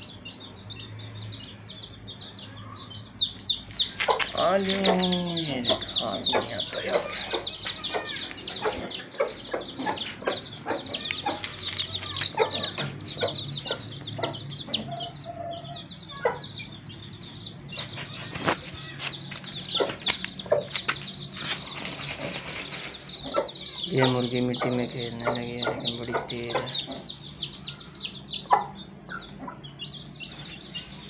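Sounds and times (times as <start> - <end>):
chicks peeping: 0.0 - 31.0
hen clucking: 3.2 - 31.0.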